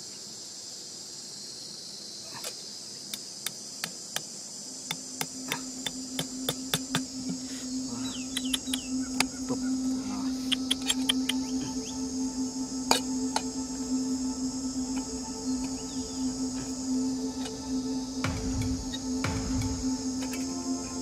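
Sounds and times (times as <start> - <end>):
insects buzzing: 0.0 - 21.0
low steady hum: 3.8 - 21.0.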